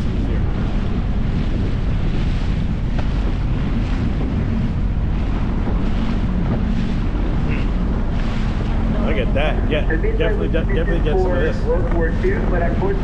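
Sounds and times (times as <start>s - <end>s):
speed boat motor running: 0.0s - 13.0s
water around hull: 0.0s - 13.0s
wind buffeting microphone: 0.0s - 13.0s.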